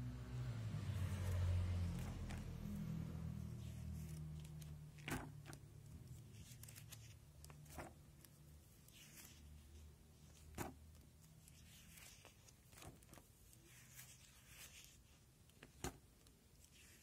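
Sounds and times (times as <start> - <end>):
plastic pages rustling: 1.0 - 17.0.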